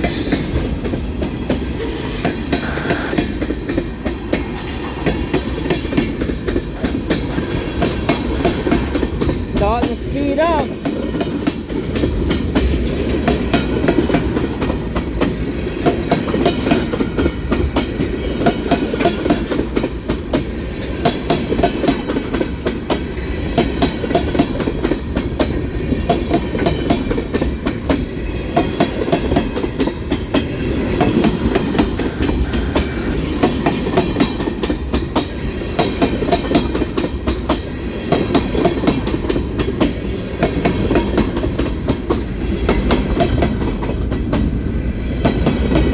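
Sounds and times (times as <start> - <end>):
freight train cars rolling past: 0.0 - 45.9.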